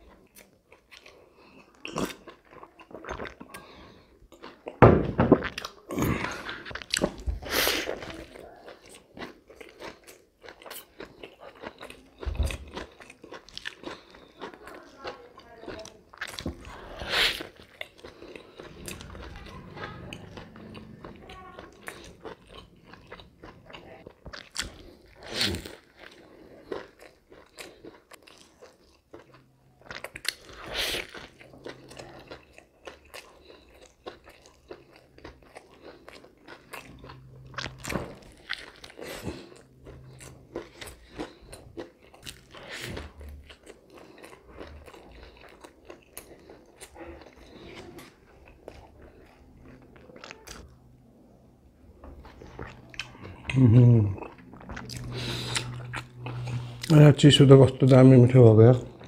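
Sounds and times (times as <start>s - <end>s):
chewing with wet mouth clicks: 0.0s - 4.8s, 7.9s - 50.8s, 52.2s - 53.6s, 54.2s - 58.0s.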